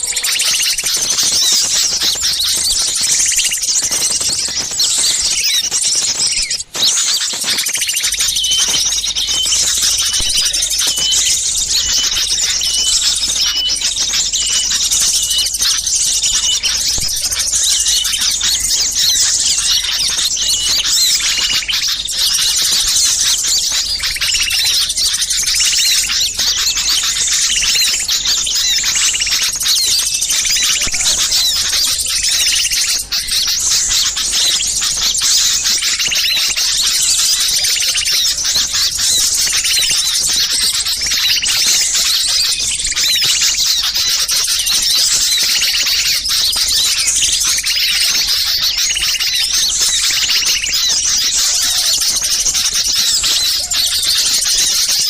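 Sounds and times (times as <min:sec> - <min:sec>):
small songbirds chirping and trilling: 0:00.0 - 0:55.0.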